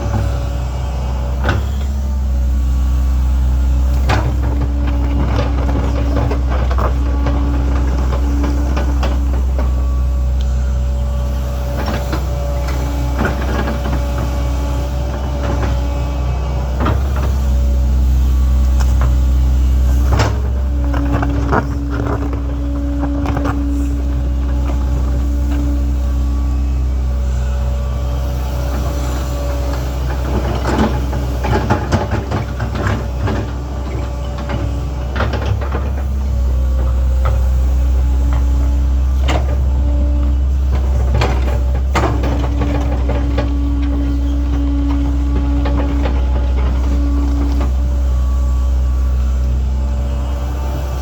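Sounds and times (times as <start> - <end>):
excavator diesel engine running: 0.0 - 51.0
hydraulic whine: 0.0 - 51.0.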